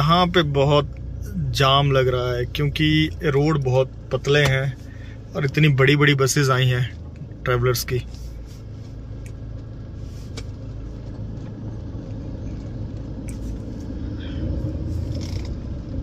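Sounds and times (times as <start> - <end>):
car driving slowly: 0.0 - 16.0.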